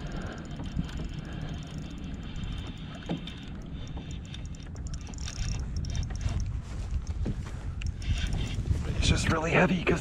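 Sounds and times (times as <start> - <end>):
faint clicks: 0.0 - 8.6
low rumble of wind: 0.0 - 10.0
water around kayak: 0.0 - 10.0.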